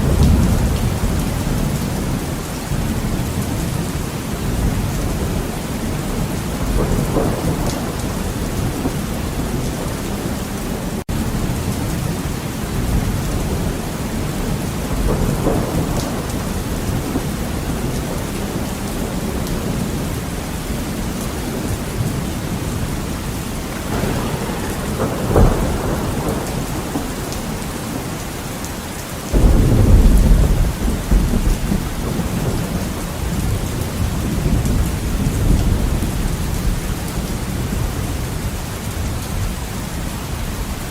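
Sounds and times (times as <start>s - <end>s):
loud thunderclap: 0.0s - 20.0s, 23.6s - 38.1s
thunder rolling: 0.0s - 20.8s, 21.5s - 39.1s
heavy rain on a window: 0.0s - 40.9s.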